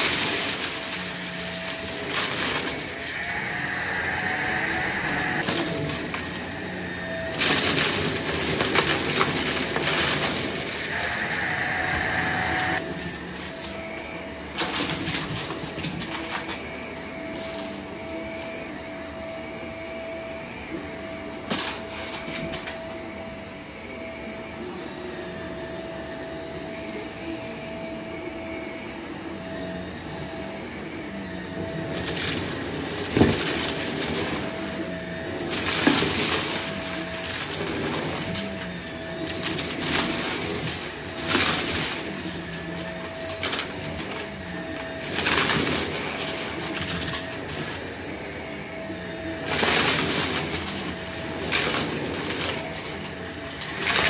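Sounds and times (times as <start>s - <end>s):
debris rattling in vacuum: 0.0s - 54.0s
vacuum cleaner motor whining: 0.0s - 54.0s.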